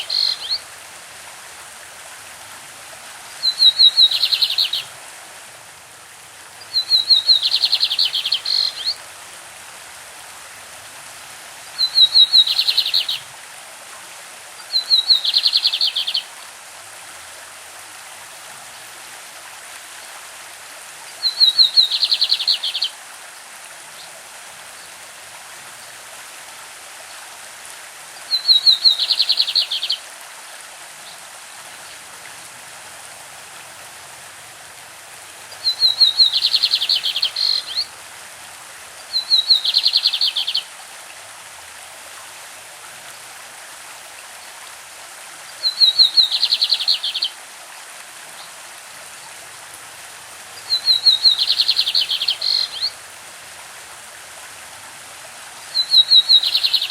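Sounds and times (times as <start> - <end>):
running stream water: 0.0 - 56.9.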